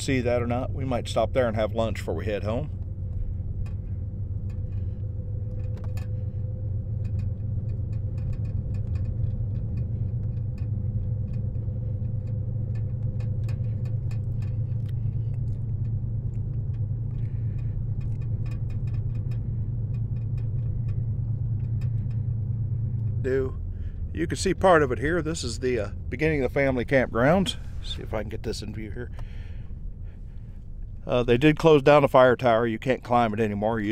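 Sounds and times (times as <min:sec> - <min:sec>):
car engine and tyre rumble: 0:00.0 - 0:33.9
light clicks and rattles: 0:00.0 - 0:33.9.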